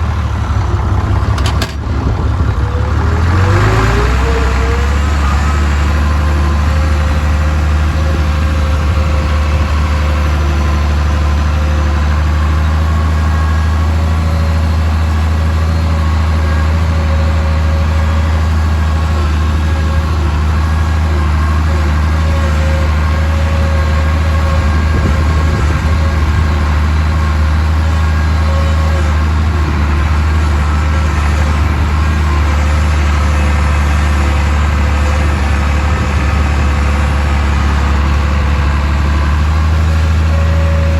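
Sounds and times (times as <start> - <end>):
tractor engine droning: 0.0 - 40.9.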